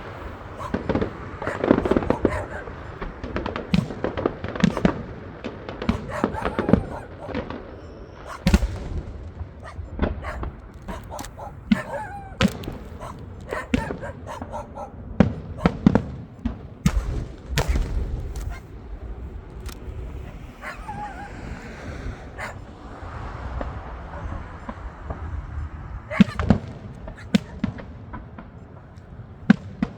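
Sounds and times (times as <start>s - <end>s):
fireworks whistles: 0.0s - 14.3s, 15.2s - 28.8s
fireworks bangs and cracks: 0.0s - 29.9s
fireworks deep thuds: 0.0s - 29.9s.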